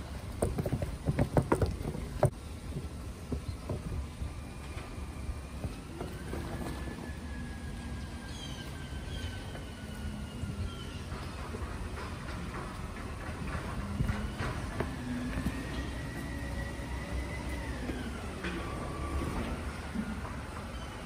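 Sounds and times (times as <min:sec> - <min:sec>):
garbage truck engine rumble: 0:00.0 - 0:21.0.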